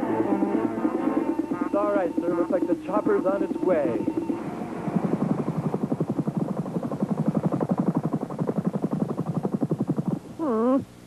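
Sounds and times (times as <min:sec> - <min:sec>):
helicopter rotor chopping: 0:00.0 - 0:10.3.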